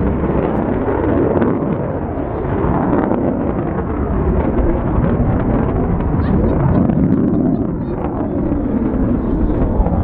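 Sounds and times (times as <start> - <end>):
jet aircraft flying overhead: 0.0 - 10.0.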